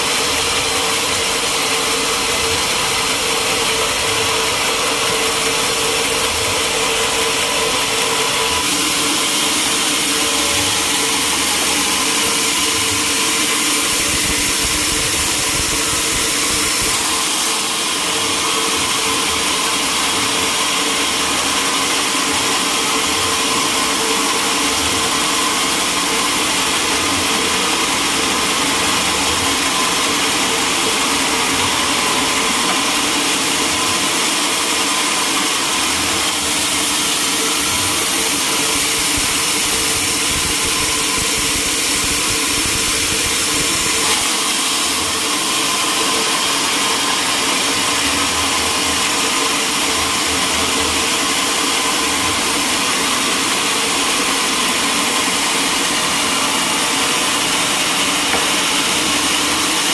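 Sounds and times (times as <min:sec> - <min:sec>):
sawmill cutting a log: 0:00.0 - 0:59.9.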